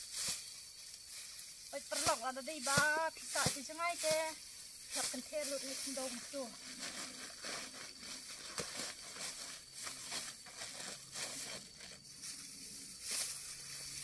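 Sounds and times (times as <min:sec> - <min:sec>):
dry grass rustling and crackling: 0:00.0 - 0:14.0.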